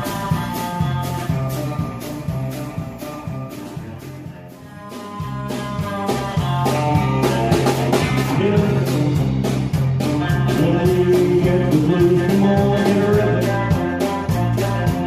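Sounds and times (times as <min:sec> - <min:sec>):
guitar: 0:00.0 - 0:15.0
low bass line: 0:00.0 - 0:15.0
steady drum beat: 0:00.0 - 0:15.0.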